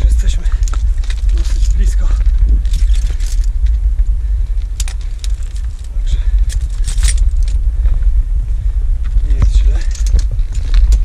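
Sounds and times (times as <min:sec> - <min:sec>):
climbing gear clicks and clinks: 0:00.0 - 0:03.9, 0:04.5 - 0:07.6, 0:09.1 - 0:11.0
wind buffeting microphone: 0:00.0 - 0:11.0.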